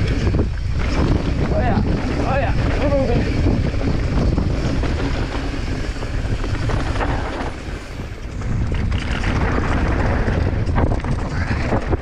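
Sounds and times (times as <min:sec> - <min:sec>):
bike tyres rattling on rocky trail: 0:00.0 - 0:12.0
wind buffeting microphone: 0:00.0 - 0:12.0.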